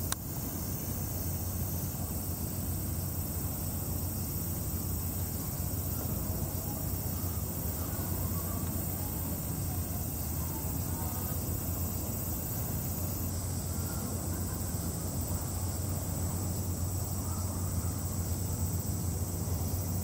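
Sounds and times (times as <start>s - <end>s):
high hiss: 0.0s - 20.0s.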